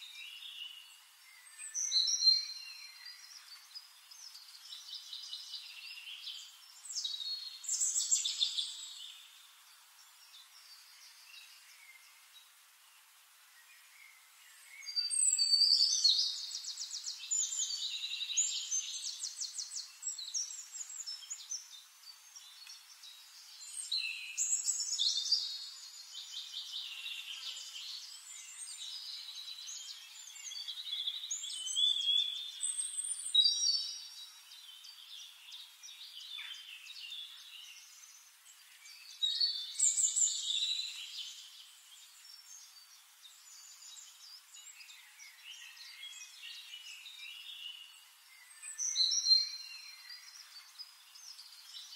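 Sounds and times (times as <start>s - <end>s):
quiet bird twittering: 0.0s - 51.9s
songbirds chirping and trilling: 0.0s - 51.9s.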